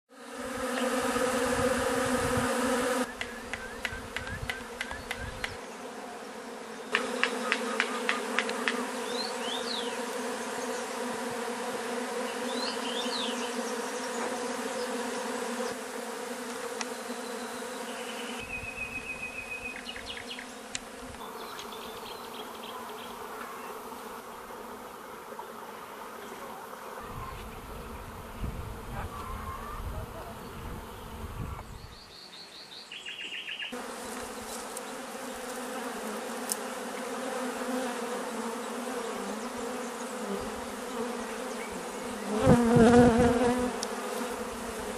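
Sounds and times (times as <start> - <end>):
honeybees buzzing: 0.1 - 44.9.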